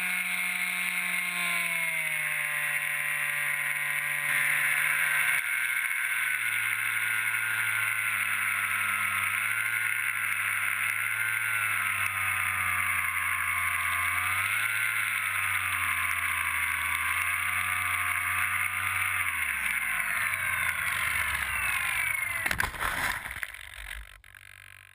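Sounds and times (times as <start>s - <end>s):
electric motor and propeller whine: 0.0s - 24.9s.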